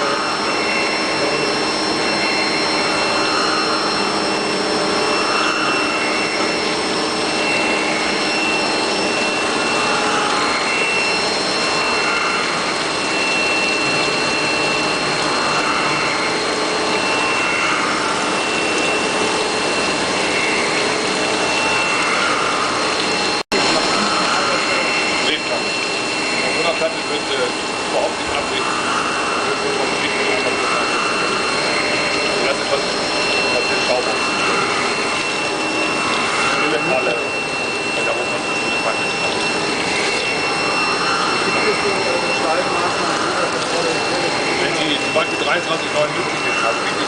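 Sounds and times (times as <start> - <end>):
grinder hiss and whine: 0.0 - 47.0.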